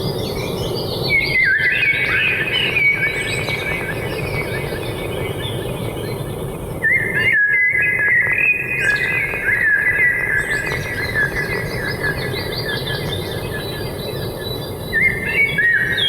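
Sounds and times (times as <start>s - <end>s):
birds singing whistled phrases: 0.2s - 6.2s, 6.8s - 16.0s.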